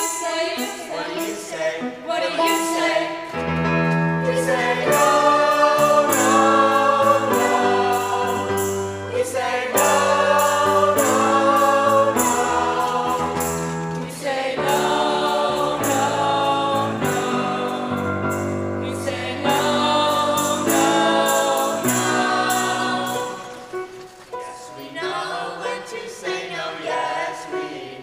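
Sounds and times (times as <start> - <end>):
choir singing with accompaniment: 0.0 - 28.0.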